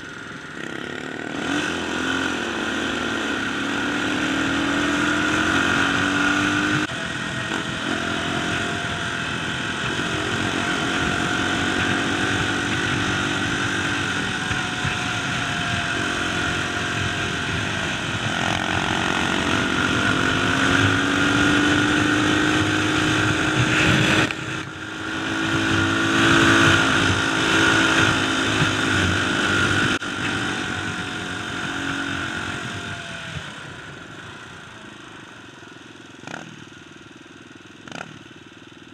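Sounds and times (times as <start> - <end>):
dirt bike engine revving: 0.0 - 33.6, 36.2 - 36.8, 37.8 - 38.3.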